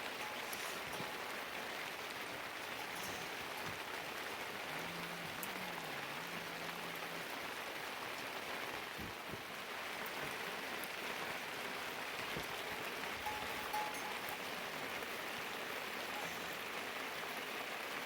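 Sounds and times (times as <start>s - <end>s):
louder raindrops: 0.0s - 18.0s
steady rain: 0.0s - 18.0s.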